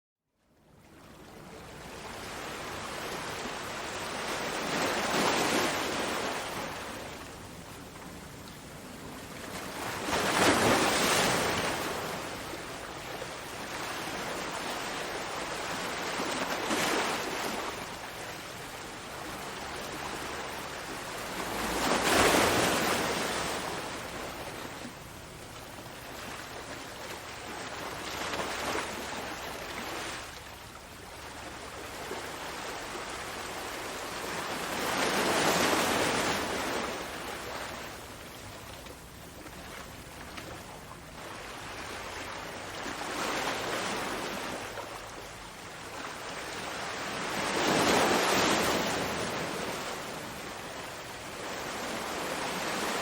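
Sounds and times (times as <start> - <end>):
ocean waves breaking: 1.1 - 53.0.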